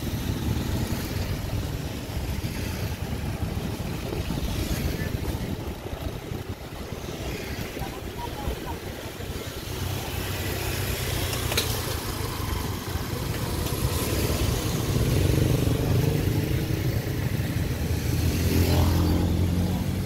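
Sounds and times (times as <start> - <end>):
motorcycle engines passing: 0.0 - 20.0.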